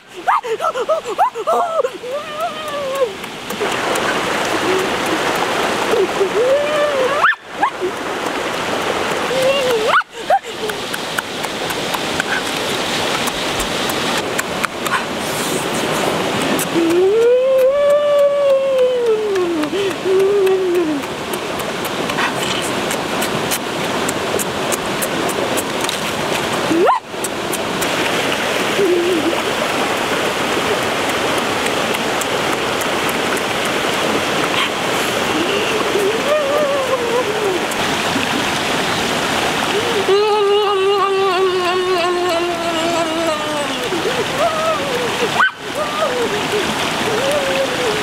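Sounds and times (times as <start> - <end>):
stream running over rocks: 0.0 - 48.0.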